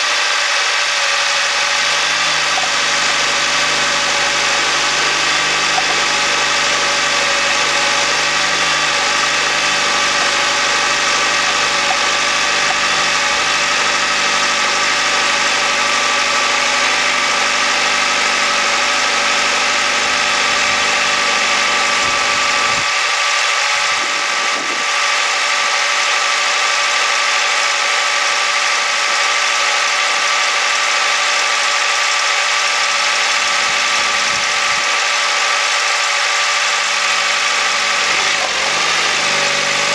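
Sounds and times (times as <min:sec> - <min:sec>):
light engine rattling: 0:00.0 - 0:39.9
car engine running: 0:00.4 - 0:26.2, 0:26.8 - 0:39.9.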